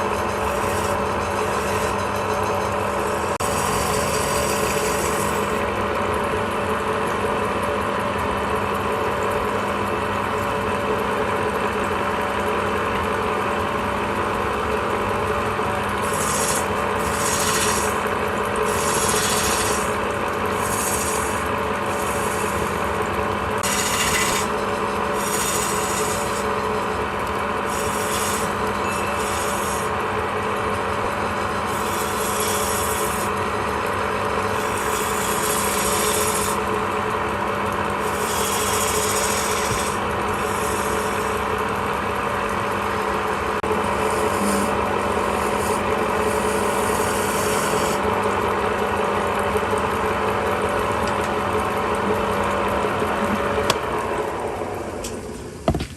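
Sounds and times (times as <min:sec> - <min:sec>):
tool scraping spinning wood: 0:00.0 - 0:55.9
wood lathe motor hum: 0:00.0 - 0:55.9.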